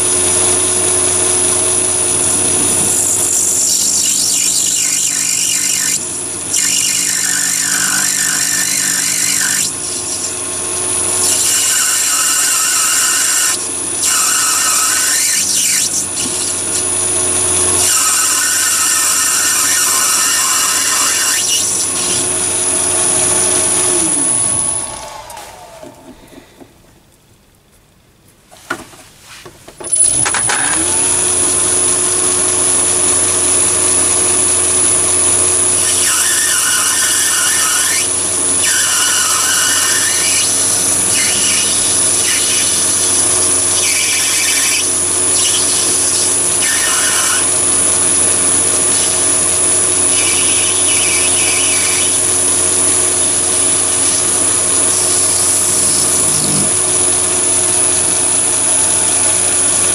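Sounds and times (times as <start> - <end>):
lathe motor whine: 0.0 - 26.3, 29.9 - 59.9
tool cutting brass: 2.2 - 25.1, 29.9 - 59.9.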